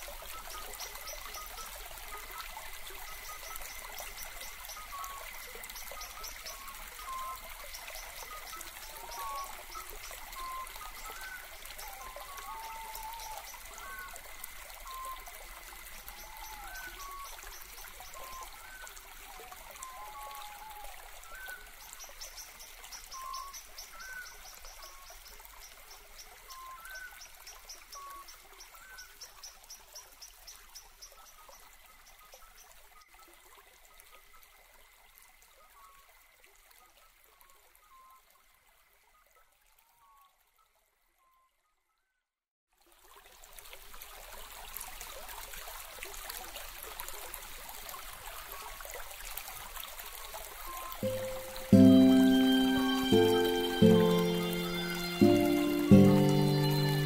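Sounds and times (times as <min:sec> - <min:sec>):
water trickling: 0:00.0 - 0:40.8, 0:42.7 - 0:57.0.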